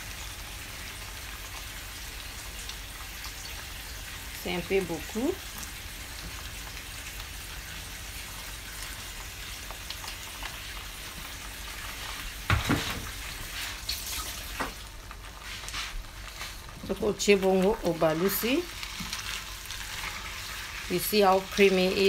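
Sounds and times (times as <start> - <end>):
sauce sizzling in frying pan: 0.0 - 22.0.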